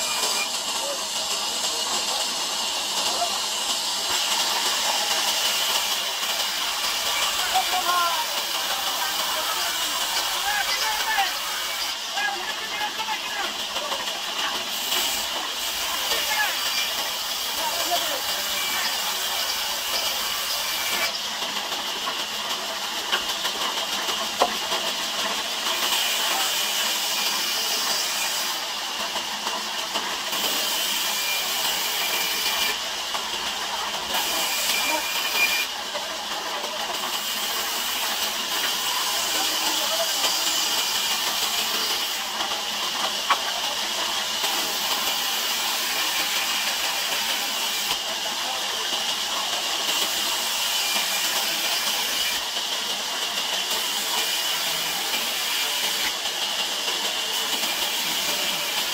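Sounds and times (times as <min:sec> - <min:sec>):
band saw cutting timber: 0:00.0 - 0:58.9.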